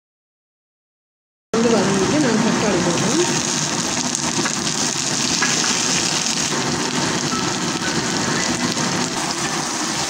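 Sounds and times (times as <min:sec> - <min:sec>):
vegetables sizzling in hot oil: 0:01.6 - 0:10.0.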